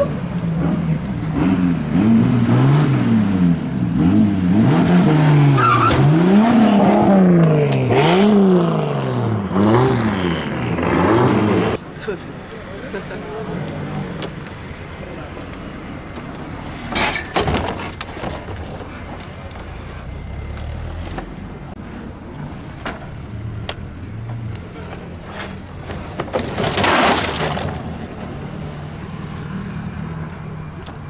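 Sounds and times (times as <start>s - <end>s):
cars driving slowly past: 0.0s - 31.0s.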